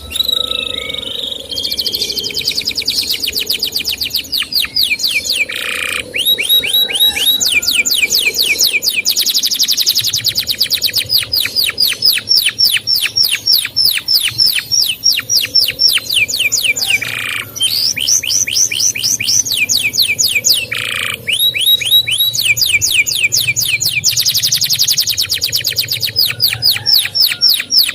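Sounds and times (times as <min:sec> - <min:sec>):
canary singing falling chirps: 0:00.0 - 0:27.9.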